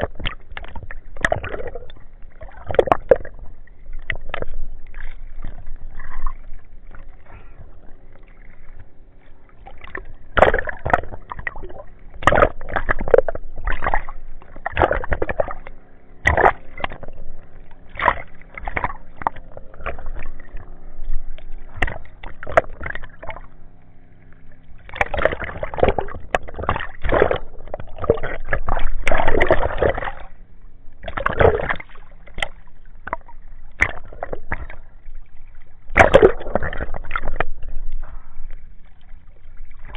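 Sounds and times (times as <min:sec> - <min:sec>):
faint steady hum: 0:00.0 - 0:39.9
water sloshing and splashing: 0:00.0 - 0:39.9.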